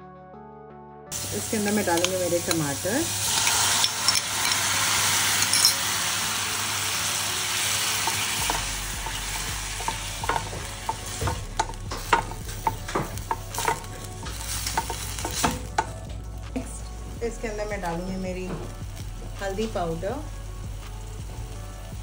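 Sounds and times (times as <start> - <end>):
onions sizzling in oil: 1.1 - 22.0.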